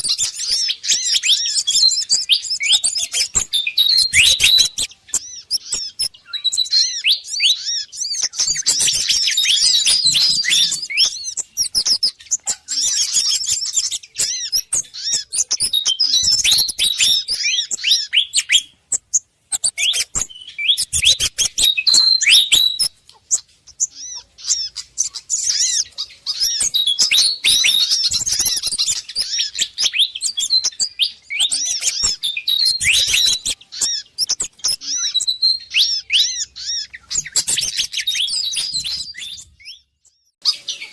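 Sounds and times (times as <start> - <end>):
rapid high-pitched bird chirping: 0.0 - 40.9
small songbirds calling: 0.0 - 40.9.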